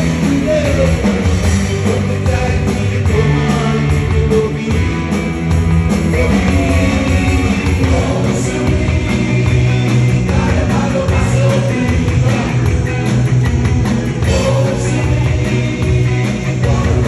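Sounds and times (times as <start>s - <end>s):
man singing into microphone: 0.0s - 5.1s, 6.1s - 12.7s, 14.2s - 17.0s
live rock band playing: 0.0s - 17.0s.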